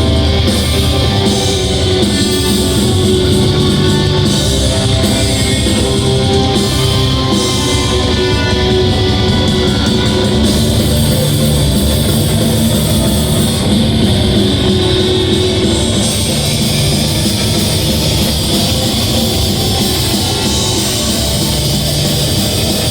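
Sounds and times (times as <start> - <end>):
heavy metal band playing live: 0.0 - 22.9.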